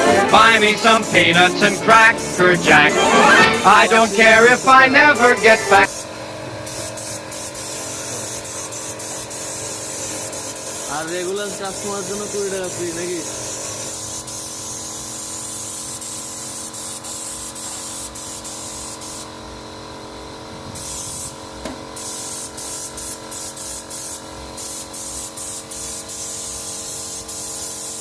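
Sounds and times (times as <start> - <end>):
pressure washer spraying water: 0.0 - 19.4, 20.6 - 28.0.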